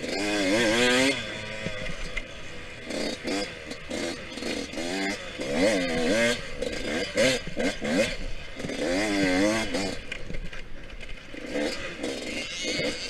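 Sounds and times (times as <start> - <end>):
two-stroke motorcycle engine racing: 0.0 - 13.0.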